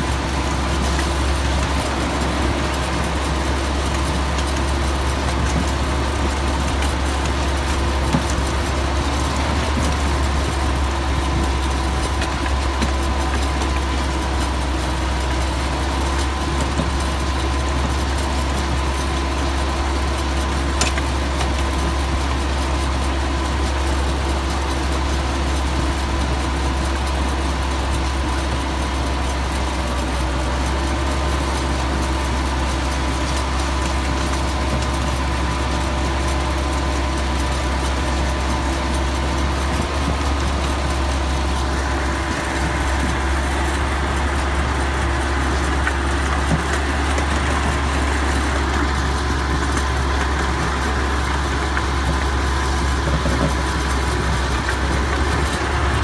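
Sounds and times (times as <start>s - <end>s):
miniature train running on track: 0.0s - 56.0s.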